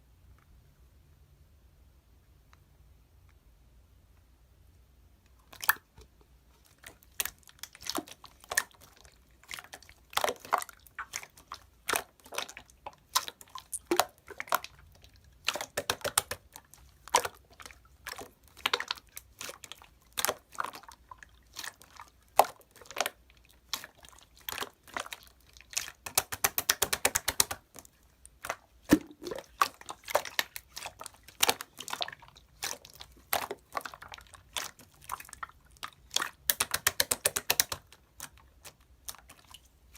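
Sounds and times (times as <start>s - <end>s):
slime squishing with wet clicks: 5.2s - 39.9s.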